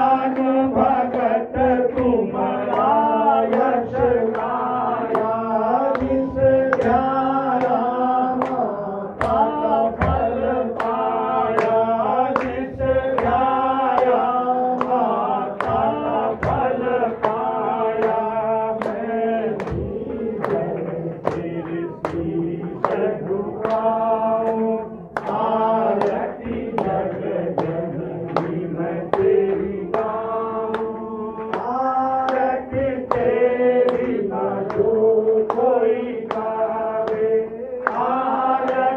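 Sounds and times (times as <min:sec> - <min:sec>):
voices singing devotional song: 0:00.0 - 0:38.9.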